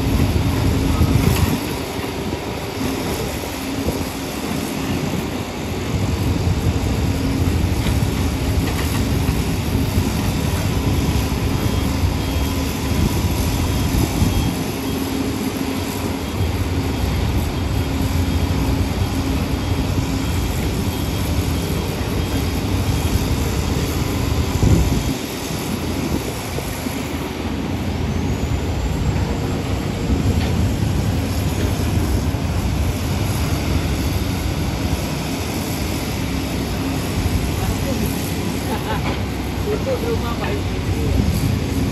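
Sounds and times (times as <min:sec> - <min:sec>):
heavy machinery diesel engines: 0:00.0 - 0:41.9.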